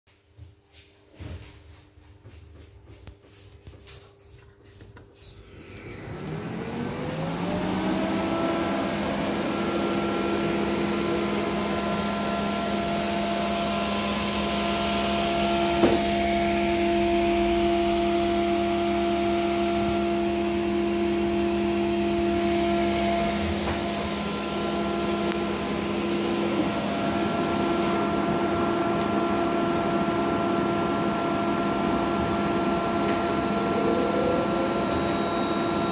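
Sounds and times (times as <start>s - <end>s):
electric motor whine: 5.4s - 35.9s.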